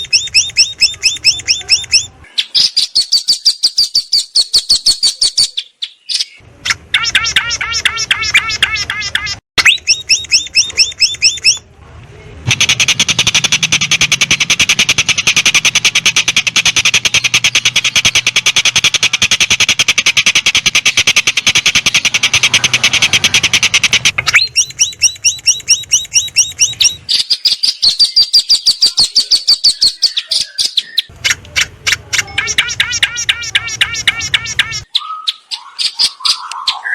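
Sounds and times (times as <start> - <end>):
songbird chirps and trills: 0.0 - 36.9.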